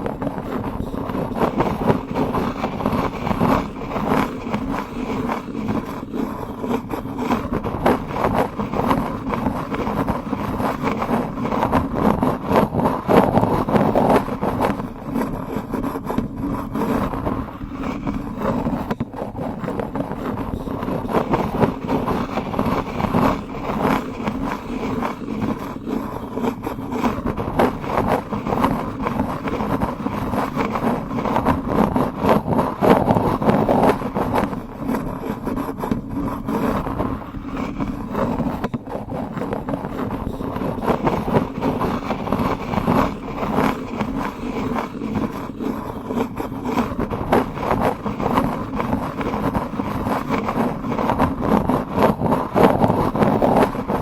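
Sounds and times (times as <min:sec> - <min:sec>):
wooden spoon scraping and rubbing: 0:00.0 - 0:54.0.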